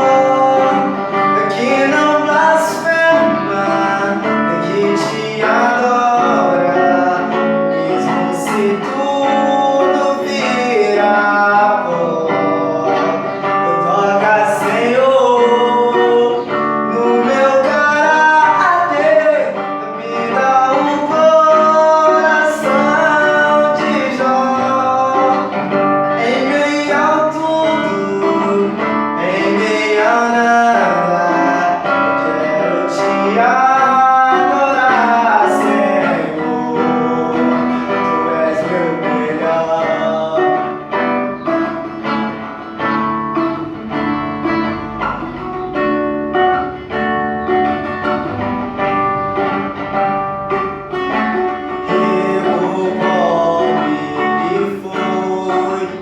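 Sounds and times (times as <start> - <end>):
acoustic guitar strumming: 0.0 - 56.0
person singing gospel song: 0.0 - 56.0.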